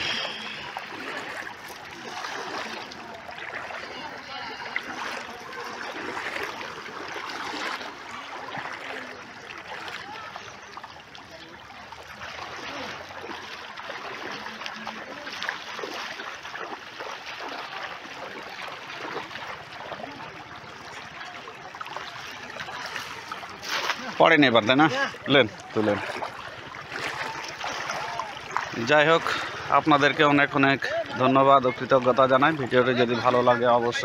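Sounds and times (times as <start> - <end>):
water sloshing and trickling: 0.0 - 34.0.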